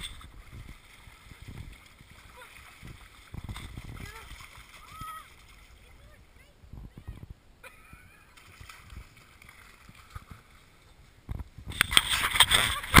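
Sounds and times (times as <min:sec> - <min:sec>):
grass rustling on microphone: 0:00.0 - 0:13.0.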